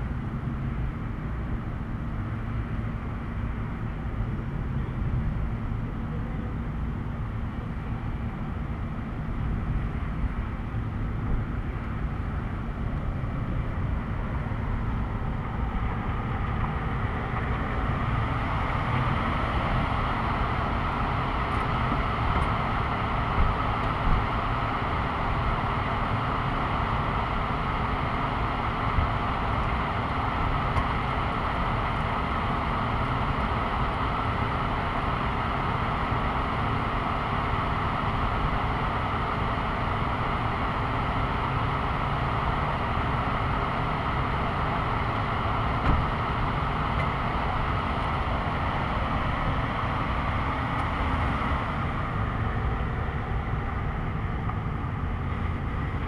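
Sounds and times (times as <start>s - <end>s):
road traffic hum: 0.0s - 56.0s.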